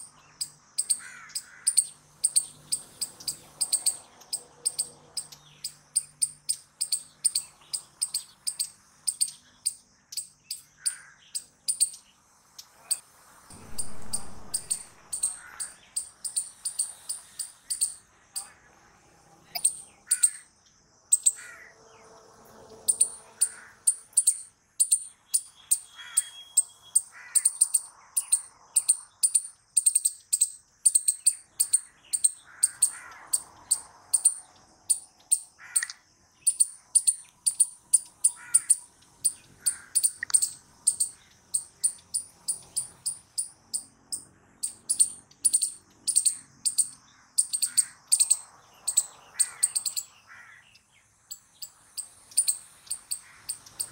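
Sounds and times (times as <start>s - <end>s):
squirrel chirping: 0.0s - 13.0s, 13.6s - 18.6s, 19.5s - 20.5s, 21.1s - 21.6s, 22.8s - 53.9s
faint birds calling: 0.0s - 53.9s.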